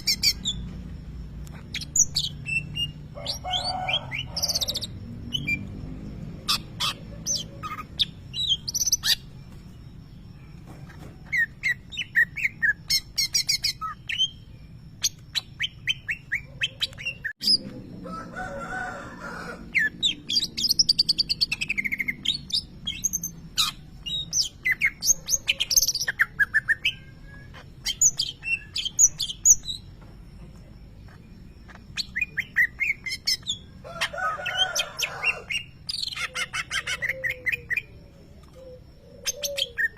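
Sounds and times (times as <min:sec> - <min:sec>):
bird singing chirps and trills: 0:00.0 - 0:17.9, 0:19.6 - 0:39.9.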